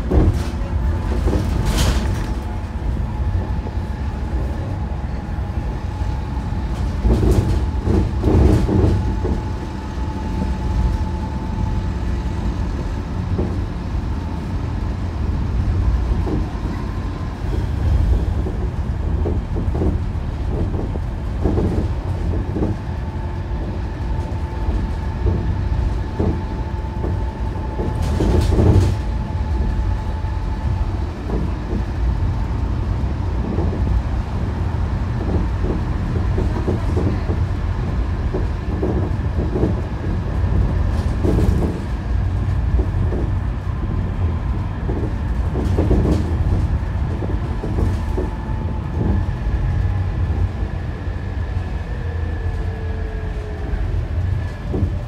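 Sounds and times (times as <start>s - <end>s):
rattles and knocks from bus body: 0.0s - 51.3s, 53.3s - 55.0s
bus engine and road rumble: 0.0s - 55.0s.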